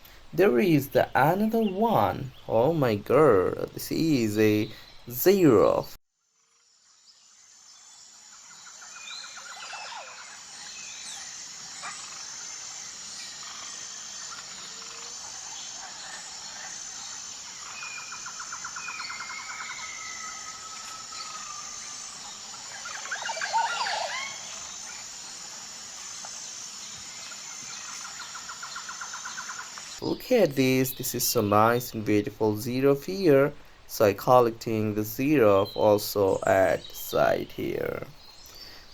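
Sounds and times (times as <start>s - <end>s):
birds calling: 0.0s - 6.0s, 8.5s - 38.9s
insect chirping: 0.0s - 38.9s.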